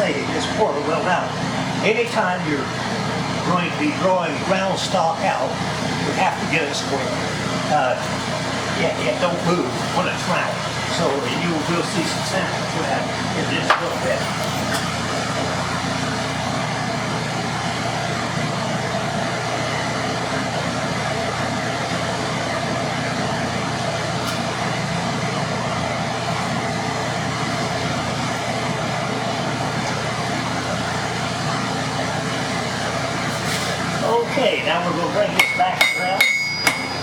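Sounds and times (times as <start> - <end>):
forge blower running: 0.0 - 37.0.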